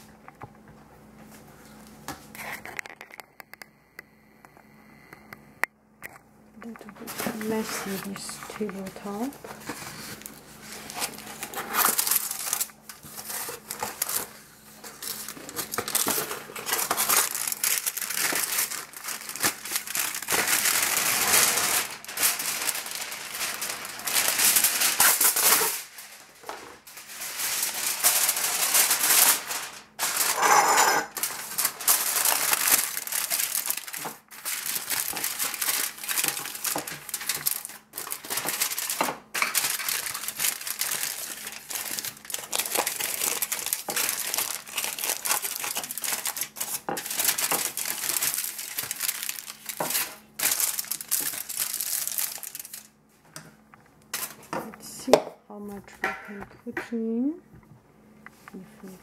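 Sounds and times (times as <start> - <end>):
aluminium foil crinkling: 6.6 - 55.0.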